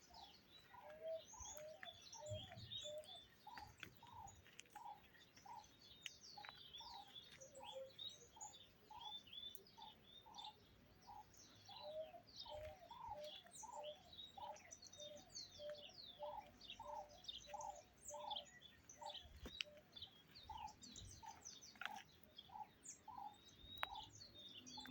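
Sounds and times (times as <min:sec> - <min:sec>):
songbirds chirping: 0:00.0 - 0:24.9.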